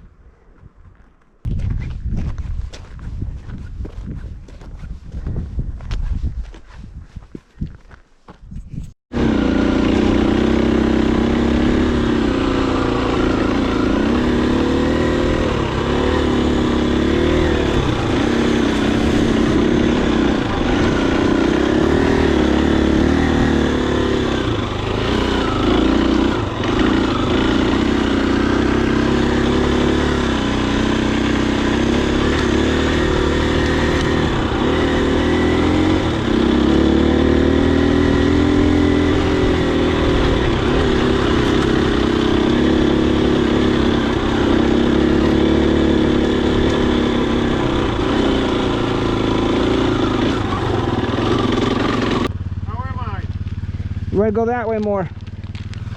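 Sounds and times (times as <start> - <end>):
dirt bike engine running: 9.1 - 55.9.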